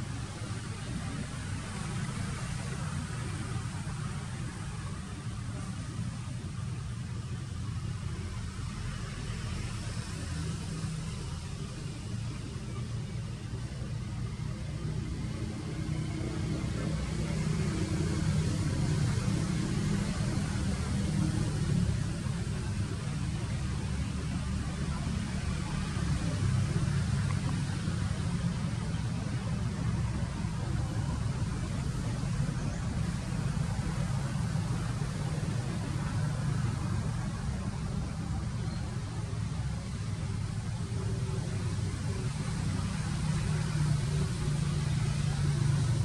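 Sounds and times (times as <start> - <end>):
faint hiss: 0.0 - 46.0.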